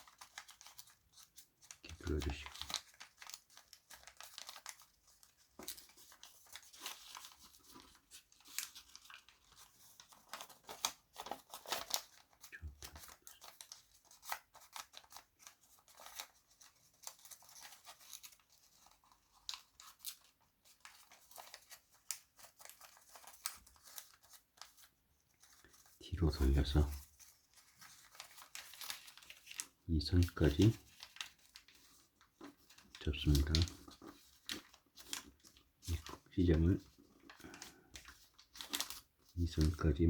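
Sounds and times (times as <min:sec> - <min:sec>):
paper crinkling while folded: 0:00.0 - 0:40.0.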